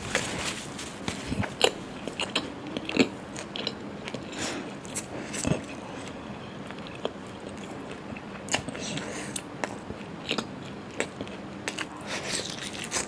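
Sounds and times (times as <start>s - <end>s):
chewing and biting food: 0.1s - 5.8s, 6.7s - 13.0s.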